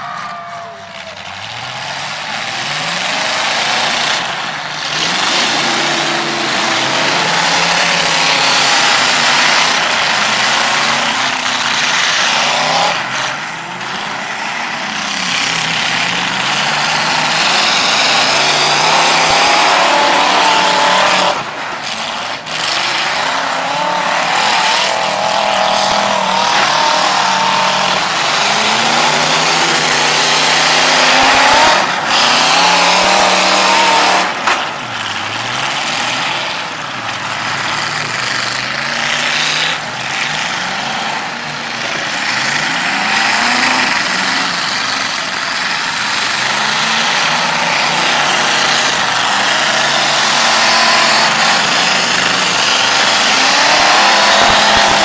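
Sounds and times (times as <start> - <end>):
car engines revving hard: 0.0 - 55.0
engines and tyres on dirt: 0.0 - 55.0.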